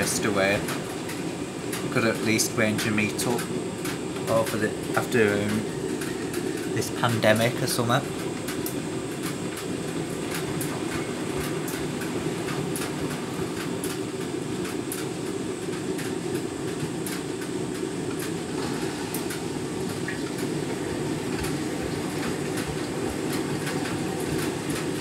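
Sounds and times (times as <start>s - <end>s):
washing machine drum rumbling: 0.0s - 25.0s.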